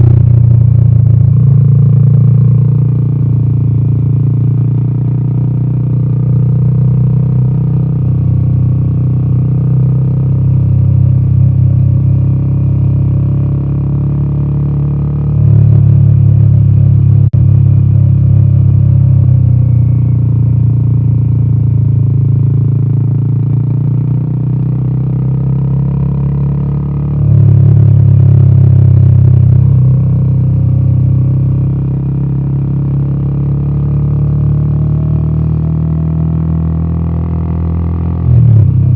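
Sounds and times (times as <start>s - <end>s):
motorcycle engine exhaust note: 0.0s - 38.9s.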